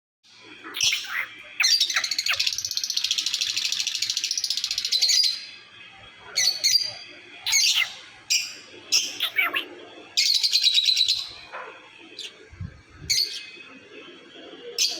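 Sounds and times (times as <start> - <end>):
parrots chattering: 0.5 - 5.5, 6.3 - 13.6.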